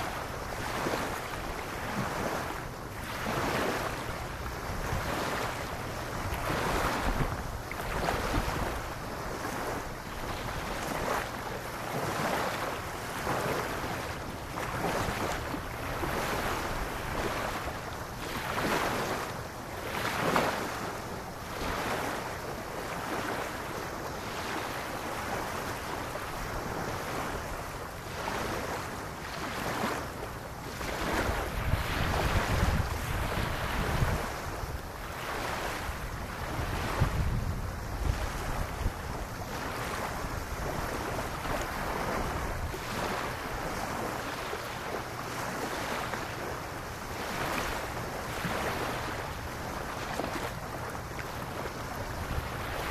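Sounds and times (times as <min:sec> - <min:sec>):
small waves lapping on sand: 0:00.0 - 0:52.9
wind rumble on microphone: 0:00.0 - 0:52.9.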